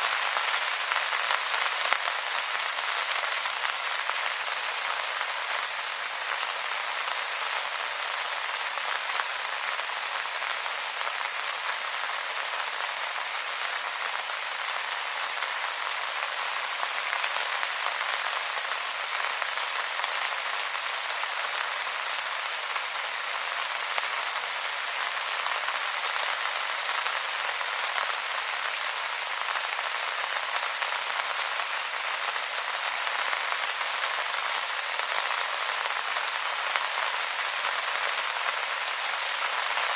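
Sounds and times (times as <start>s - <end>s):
rain falling on wet leaves: 0.0s - 39.9s.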